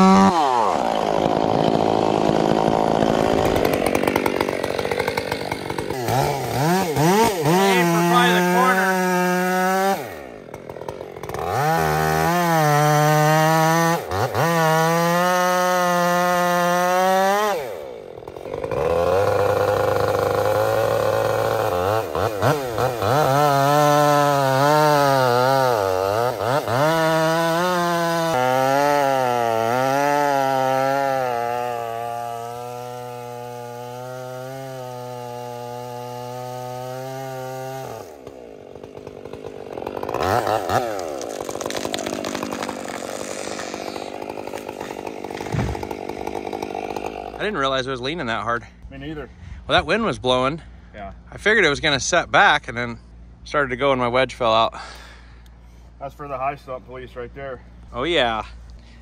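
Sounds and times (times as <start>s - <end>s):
chainsaw cutting timber: 0.0s - 50.8s.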